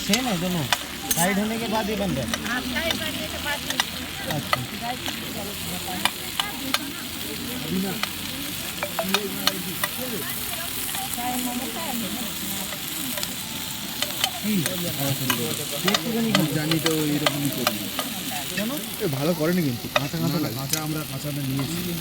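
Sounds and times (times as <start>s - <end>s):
food sizzling in a pan: 0.0s - 22.0s
metal utensil clicking on pan: 0.0s - 22.0s.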